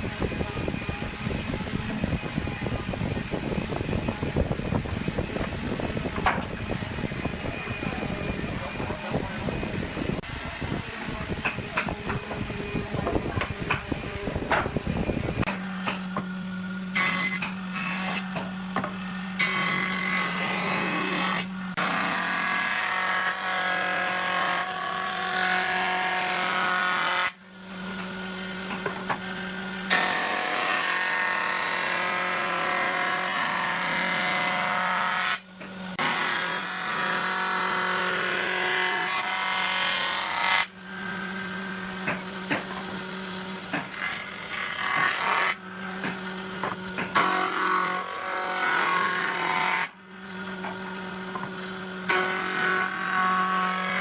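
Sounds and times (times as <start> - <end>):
power tool cutting wood: 0.0 - 54.0.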